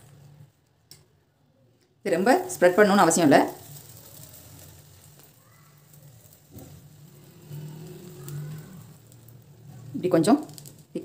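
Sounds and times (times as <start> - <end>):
batter sizzling in hot oil: 2.0 - 11.0.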